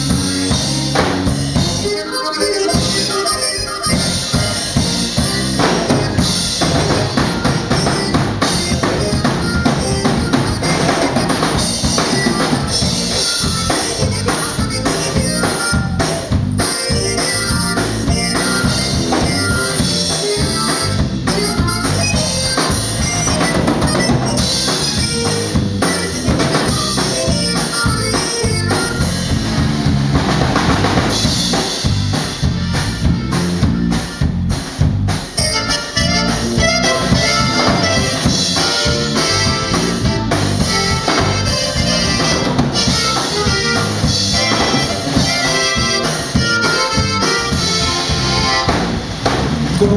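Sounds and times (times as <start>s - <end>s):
drum kit bass drum and snare: 0.0s - 49.9s
live band playing instrumental: 0.0s - 49.9s.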